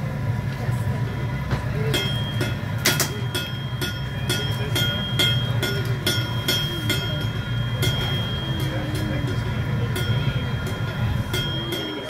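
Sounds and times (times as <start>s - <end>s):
furnace roaring: 0.0s - 12.0s
metallic clinks with ringing: 2.0s - 12.0s.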